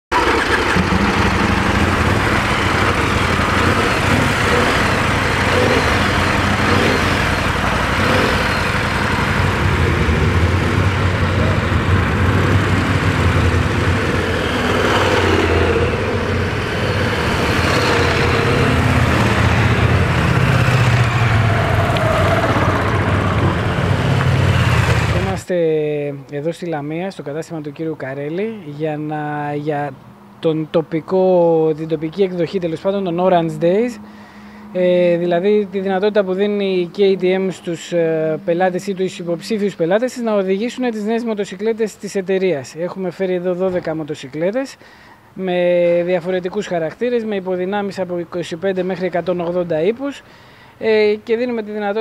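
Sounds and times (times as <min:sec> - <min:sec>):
motorcycle engines idling and revving: 0:00.1 - 0:25.5, 0:28.1 - 0:42.0, 0:45.2 - 0:52.0.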